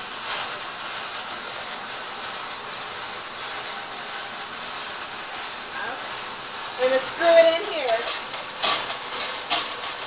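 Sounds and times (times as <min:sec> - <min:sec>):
blower airflow hiss: 0:00.0 - 0:10.0.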